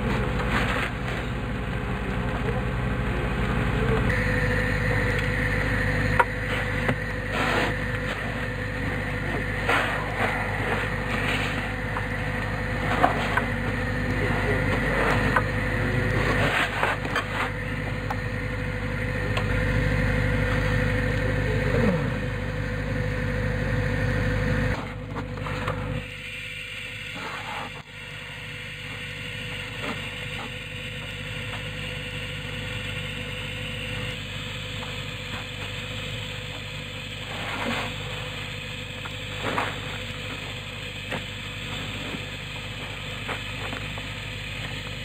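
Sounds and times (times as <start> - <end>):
engine running steadily: 0.0 - 45.0.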